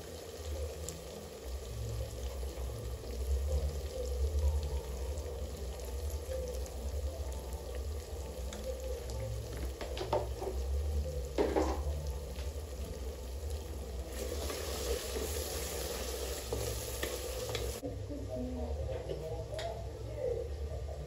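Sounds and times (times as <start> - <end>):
food sizzling in a frying pan: 0.0 - 17.8.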